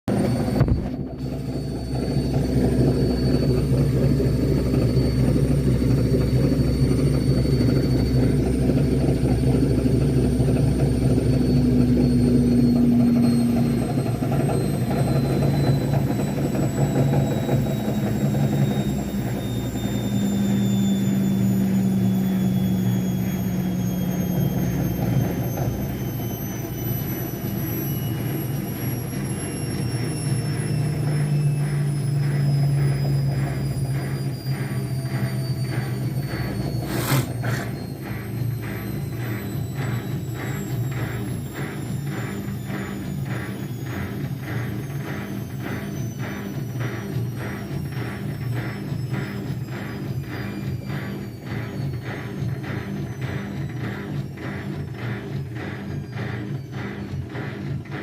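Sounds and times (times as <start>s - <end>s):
high motor whine: 0.0s - 58.0s
washing machine spinning: 0.0s - 58.0s
low rumbling noise: 0.1s - 48.7s.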